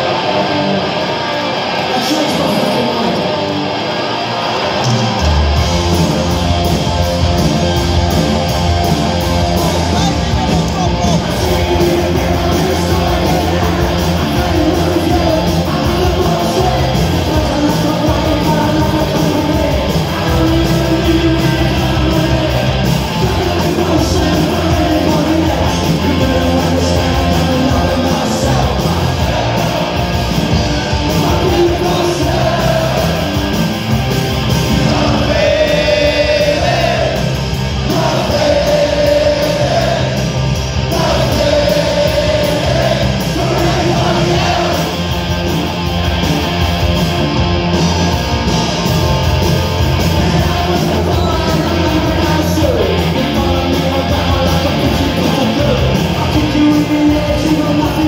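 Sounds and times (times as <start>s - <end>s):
punk rock band playing live: 0.0s - 58.0s.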